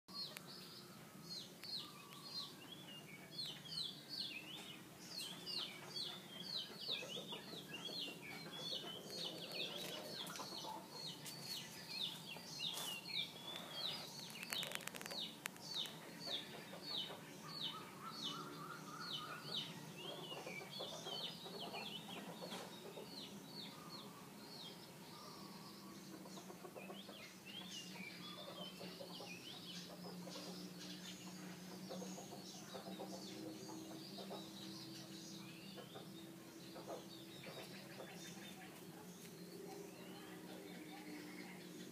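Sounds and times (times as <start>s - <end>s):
small birds chirping: 0.1s - 41.9s.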